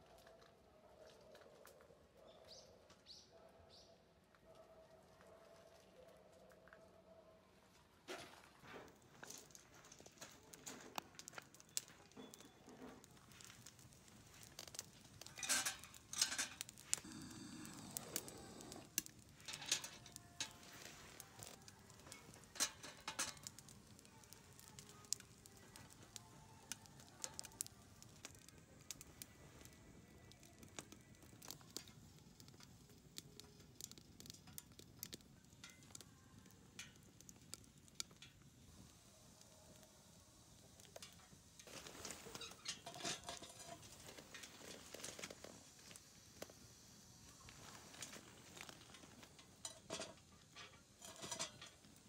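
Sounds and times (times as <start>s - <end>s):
wood fire crackling and popping: 8.1s - 52.0s.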